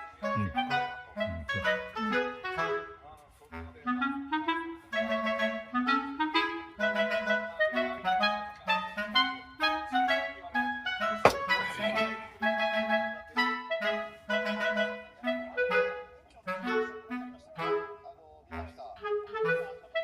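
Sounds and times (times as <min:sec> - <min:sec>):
woodwind melody: 0:00.0 - 0:20.0.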